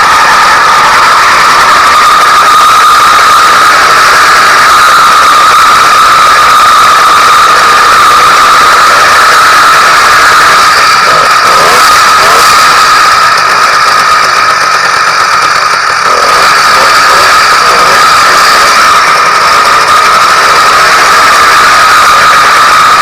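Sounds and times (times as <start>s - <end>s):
two-stroke engine whining: 0.0s - 23.0s.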